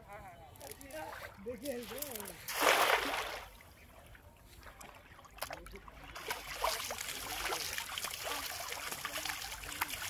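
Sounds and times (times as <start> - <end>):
water trickling and splashing: 0.6 - 10.0.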